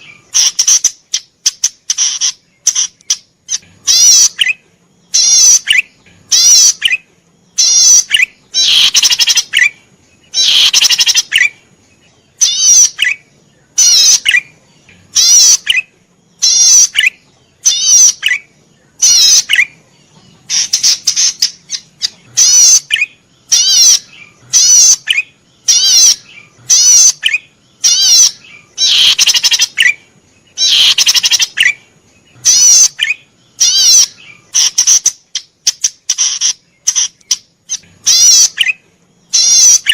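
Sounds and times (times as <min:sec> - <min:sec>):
bird singing buzzy trilled phrases: 0:00.0 - 0:39.9.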